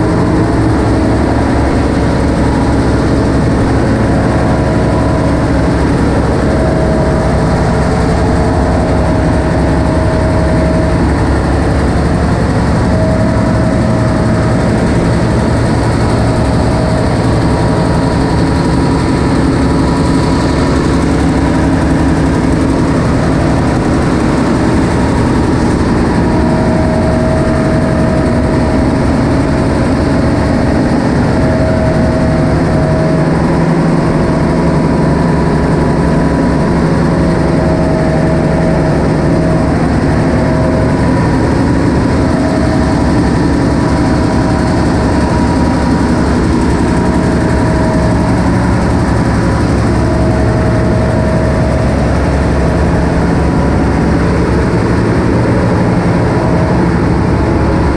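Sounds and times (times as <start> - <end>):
diesel engines running: 0.0 - 57.9
machinery whine: 0.0 - 57.9.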